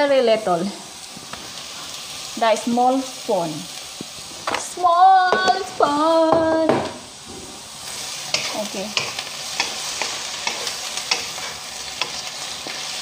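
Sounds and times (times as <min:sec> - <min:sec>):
beef sizzling in a wok: 0:00.0 - 0:13.0.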